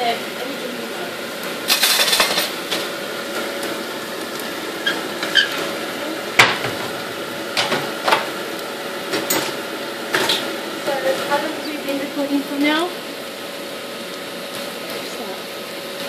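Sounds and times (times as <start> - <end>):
curry base sizzling in a pot: 0.0 - 16.0.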